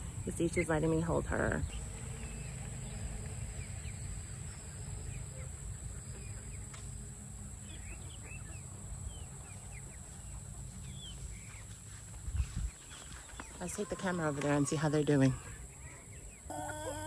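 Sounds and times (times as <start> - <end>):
young chickens chirping: 0.0 - 17.0.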